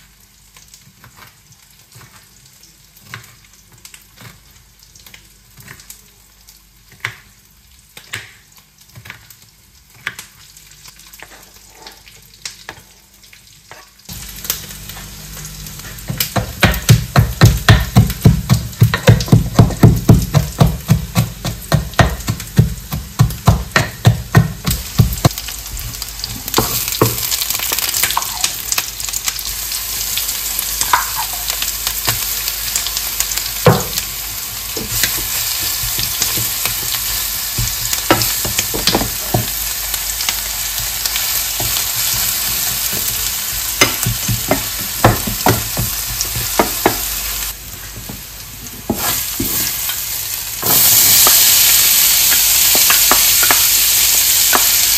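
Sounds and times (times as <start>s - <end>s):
food sizzling in a frying pan: 0.0s - 54.9s.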